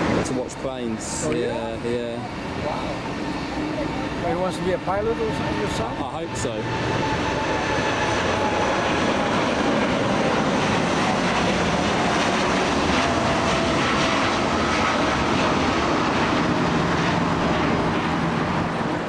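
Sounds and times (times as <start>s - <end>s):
faint engine whine: 0.0s - 19.0s
jet engines rumbling: 0.0s - 19.0s.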